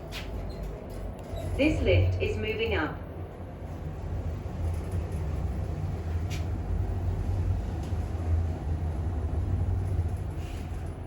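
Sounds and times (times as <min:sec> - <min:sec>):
lift car rumbling and humming: 0:00.0 - 0:11.0.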